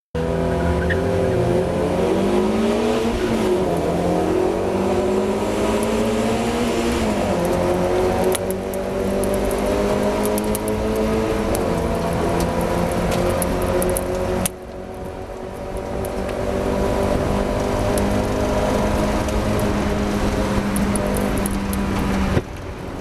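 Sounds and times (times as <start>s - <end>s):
race car engine revving: 0.2s - 22.4s.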